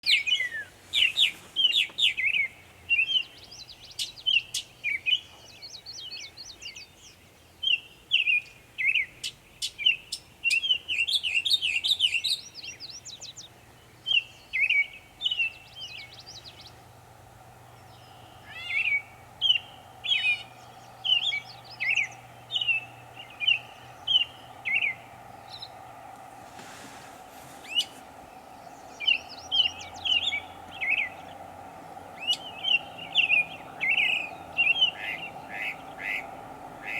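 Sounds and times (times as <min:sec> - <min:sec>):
mockingbird singing: 0:00.0 - 0:17.0, 0:17.6 - 0:25.9, 0:27.6 - 0:36.9
faint steady hum: 0:00.0 - 0:36.9.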